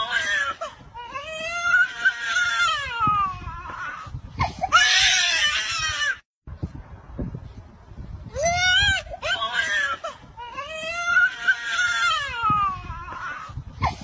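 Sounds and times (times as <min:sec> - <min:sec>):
toddler crying and screaming: 0:00.0 - 0:06.2, 0:08.3 - 0:14.0.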